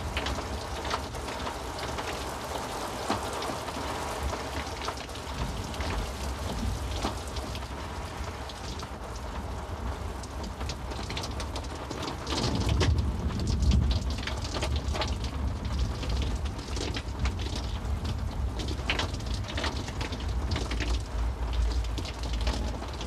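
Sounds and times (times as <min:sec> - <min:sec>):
heavy rain: 0:00.0 - 0:23.0
raindrops striking close by: 0:00.0 - 0:23.0.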